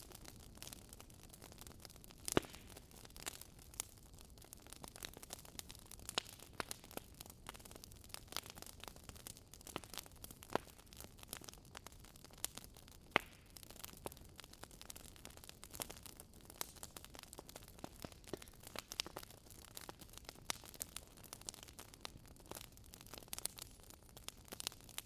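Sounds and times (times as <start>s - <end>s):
logs crackling in fireplace: 0.0s - 25.0s.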